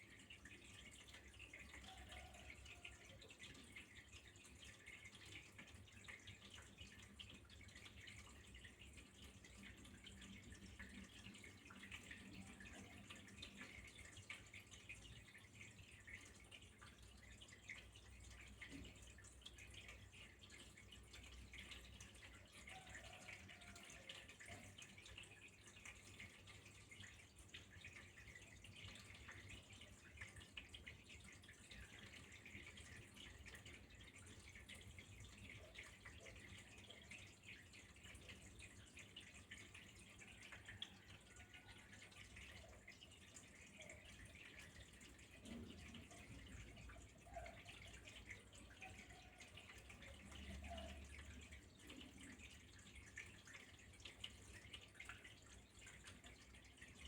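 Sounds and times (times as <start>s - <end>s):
faint trickle of running water: 0.0s - 57.0s
small water drips: 0.0s - 57.0s.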